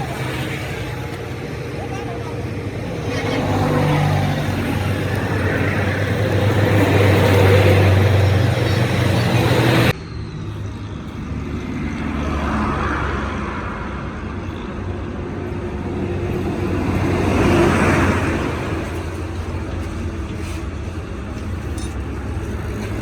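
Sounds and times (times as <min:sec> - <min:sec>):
low engine rumble: 0:00.0 - 0:12.6, 0:14.1 - 0:23.0
vehicles passing by: 0:00.0 - 0:23.0.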